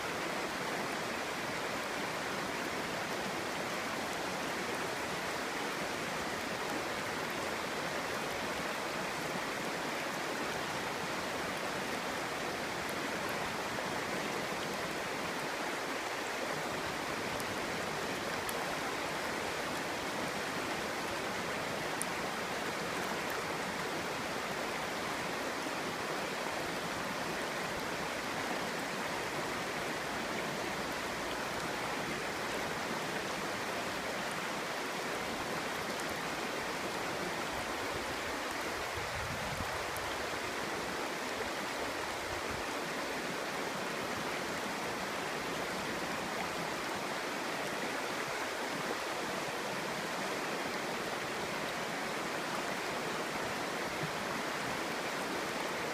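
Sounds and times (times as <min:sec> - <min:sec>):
stream babbling over rocks: 0:00.0 - 0:55.9.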